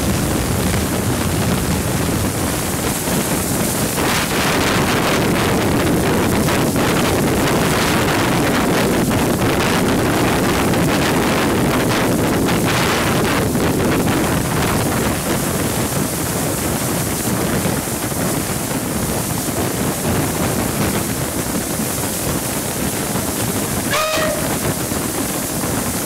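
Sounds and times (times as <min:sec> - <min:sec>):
steam train rumbling: 0:00.0 - 0:26.0
wind buffeting microphone: 0:00.0 - 0:26.0.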